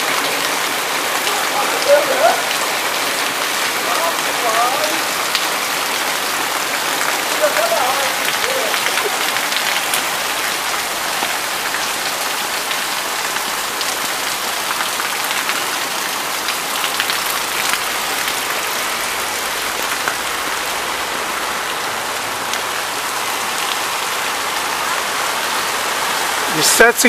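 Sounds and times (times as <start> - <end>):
heavy rain on a flooded street: 0.0 - 27.0.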